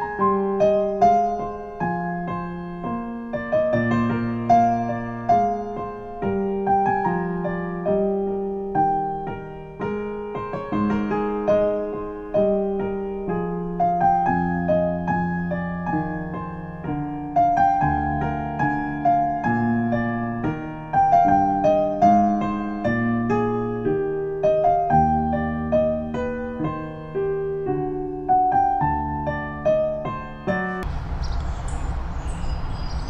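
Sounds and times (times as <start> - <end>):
slow solo piano music: 0.0 - 33.0.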